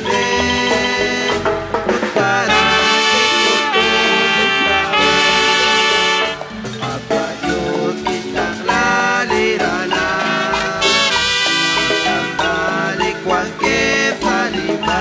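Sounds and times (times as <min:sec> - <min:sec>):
instrumental hymn music: 0:00.0 - 0:15.0.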